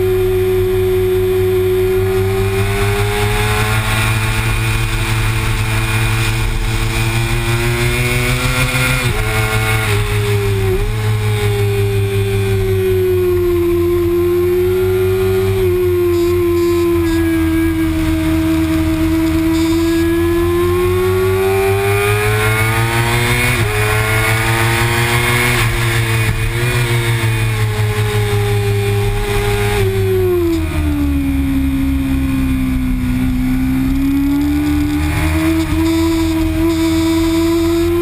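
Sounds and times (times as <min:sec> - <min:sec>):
motorcycle engine at high revs: 0:00.0 - 0:38.0.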